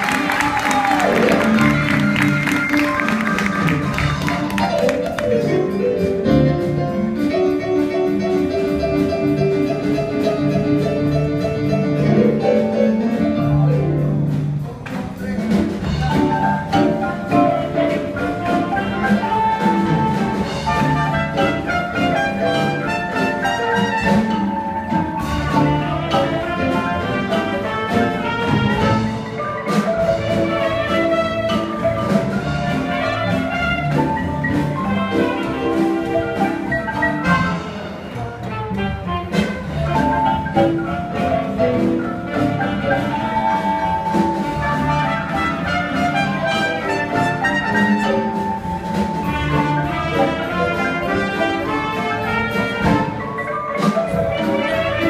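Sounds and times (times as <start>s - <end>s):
marimbas playing: 0.0s - 38.5s, 39.4s - 55.0s
upright bass: 0.0s - 55.0s.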